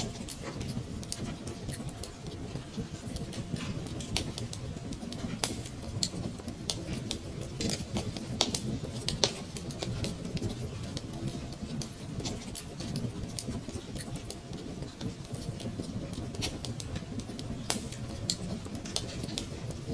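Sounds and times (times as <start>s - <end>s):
low rumble of flames: 0.0s - 19.9s
wood fire crackling: 0.0s - 19.9s.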